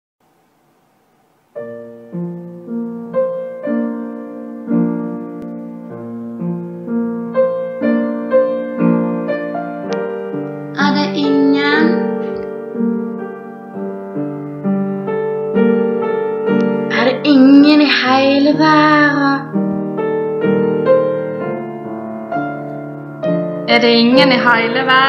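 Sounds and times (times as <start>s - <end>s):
piano music: 1.5s - 25.0s.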